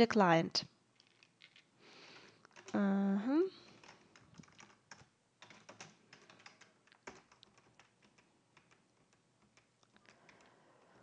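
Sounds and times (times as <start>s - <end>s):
keyboard typing: 1.0s - 11.0s.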